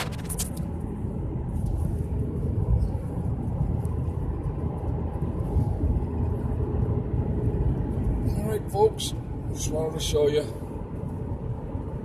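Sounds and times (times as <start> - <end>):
vehicle engine and tyre noise: 0.0 - 12.0.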